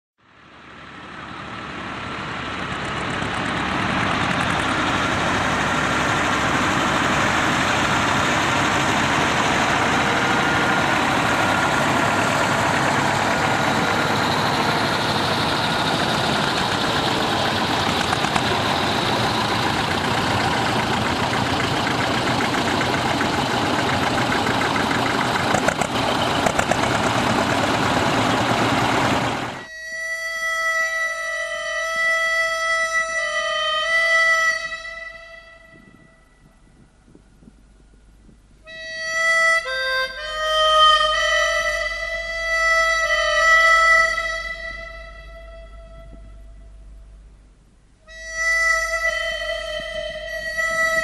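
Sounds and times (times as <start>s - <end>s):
tractor engines running: 0.3s - 35.0s, 35.7s - 51.0s.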